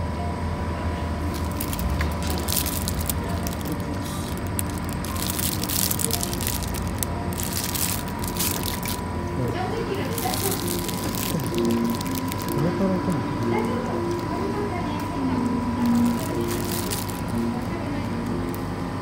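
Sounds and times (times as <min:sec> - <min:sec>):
steady low hum: 0:00.0 - 0:19.0
cellophane crinkling: 0:01.3 - 0:09.2, 0:09.9 - 0:14.7, 0:15.8 - 0:18.6.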